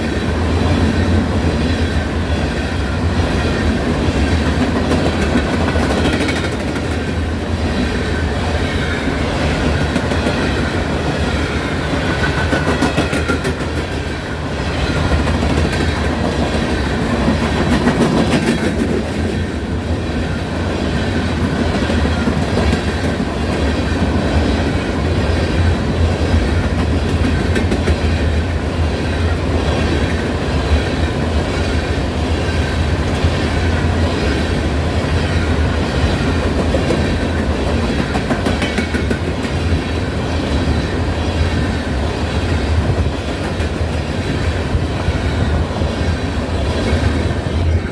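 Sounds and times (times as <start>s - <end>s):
train cars rumbling: 0.0s - 47.9s
wheels clacking over rail joints: 0.1s - 47.9s.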